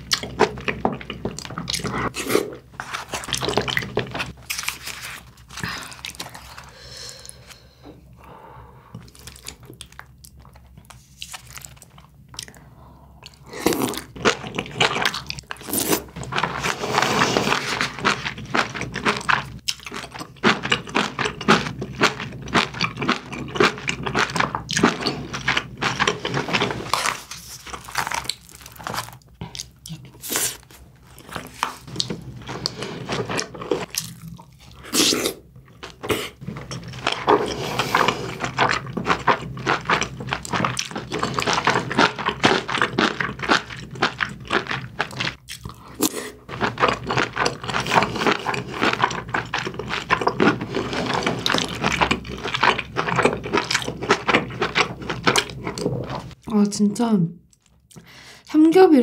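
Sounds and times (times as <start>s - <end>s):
person chewing food: 0.0s - 56.5s, 57.4s - 58.4s.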